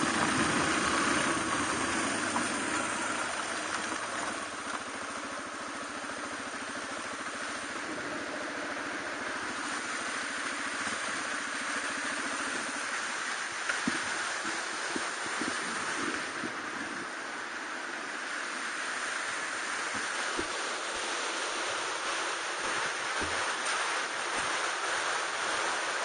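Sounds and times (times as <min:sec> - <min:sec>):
motorcycle engine idling: 0:00.0 - 0:26.0
steady hiss: 0:00.0 - 0:26.0.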